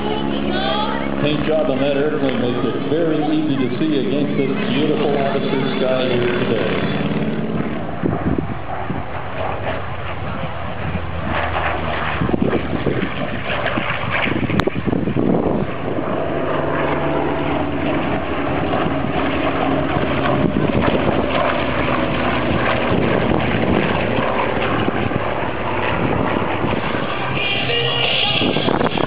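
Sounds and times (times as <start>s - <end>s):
propeller planes droning past: 0.0s - 29.0s.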